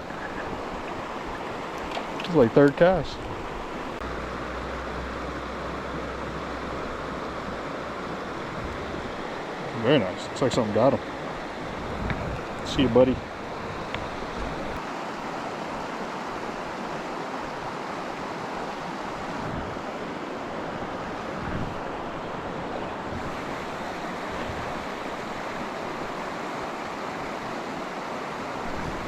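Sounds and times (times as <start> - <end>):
stream water rushing over rocks: 0.0 - 29.0.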